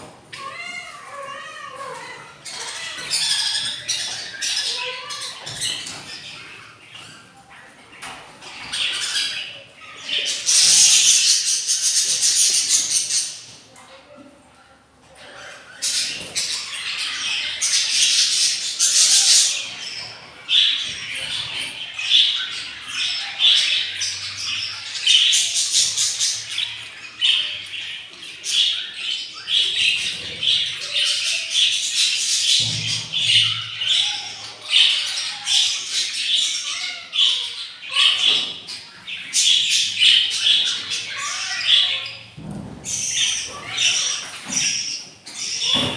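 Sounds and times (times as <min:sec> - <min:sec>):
budgerigars squawking and chirping: 0:00.1 - 0:13.7, 0:15.1 - 0:45.9.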